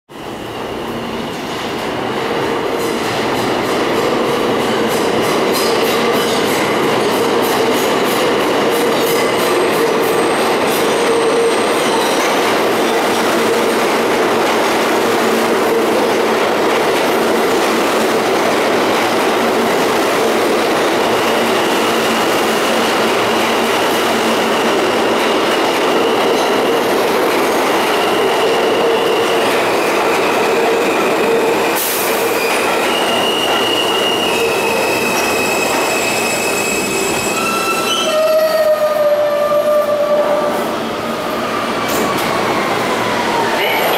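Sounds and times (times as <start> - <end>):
subway train rumbling: 0.1 - 43.9.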